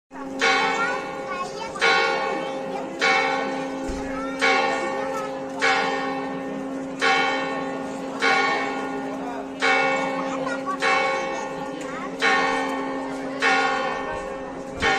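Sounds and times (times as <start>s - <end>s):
church bell tolling: 0.1s - 14.9s.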